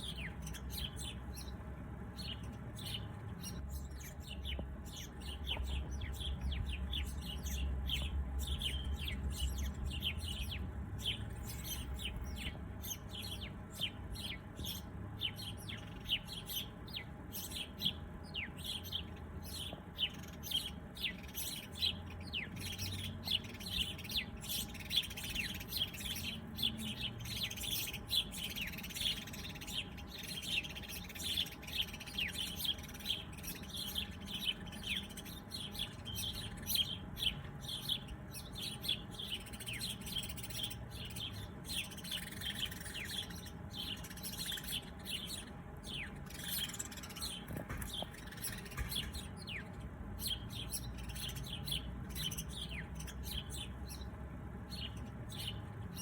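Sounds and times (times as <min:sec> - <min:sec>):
low background rumble: 0:00.0 - 0:56.0
small birds chirping: 0:00.0 - 0:56.0.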